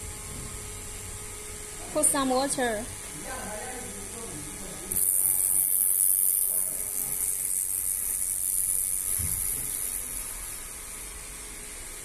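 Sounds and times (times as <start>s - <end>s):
ultrasonic handpiece hissing sizzle: 2.1s - 12.0s.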